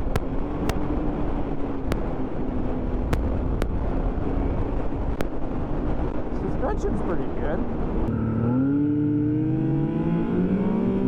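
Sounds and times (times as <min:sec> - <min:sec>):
snowmobile engine rumbling: 0:00.0 - 0:11.0.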